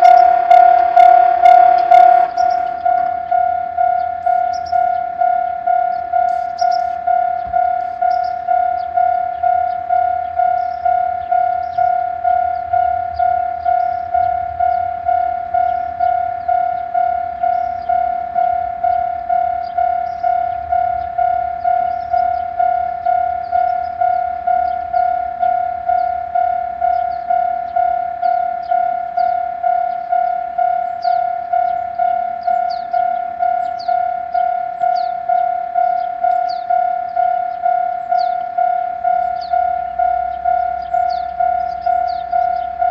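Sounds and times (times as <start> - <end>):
level-crossing warning bell ringing: 0.0 - 42.9.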